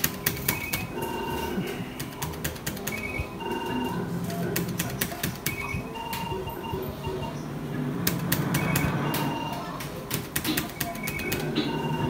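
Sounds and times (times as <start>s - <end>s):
rapid clicks: 0.0s - 6.3s, 8.0s - 12.0s
low background noise: 0.0s - 12.0s.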